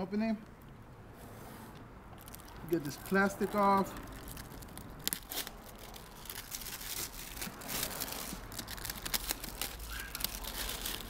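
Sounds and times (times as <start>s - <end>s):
plastic film crinkling: 2.1s - 11.0s.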